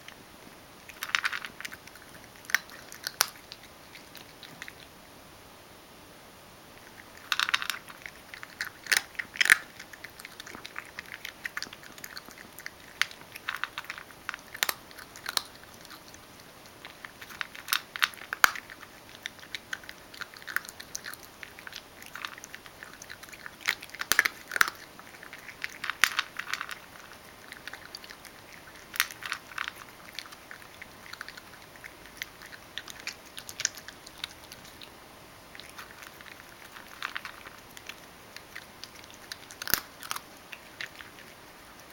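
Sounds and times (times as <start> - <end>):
cat crunching dry kibble: 0.8 - 4.9, 6.8 - 41.9.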